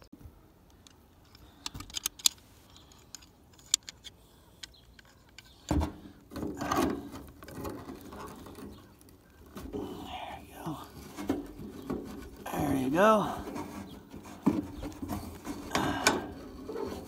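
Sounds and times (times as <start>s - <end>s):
tools scraping and rustling: 1.2s - 10.1s, 10.8s - 17.0s.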